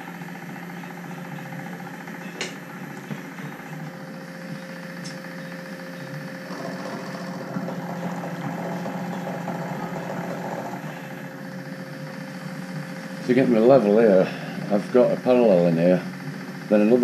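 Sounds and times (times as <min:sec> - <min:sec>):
motor hum: 0:00.0 - 0:17.0
end mill cutting steel: 0:01.6 - 0:17.0.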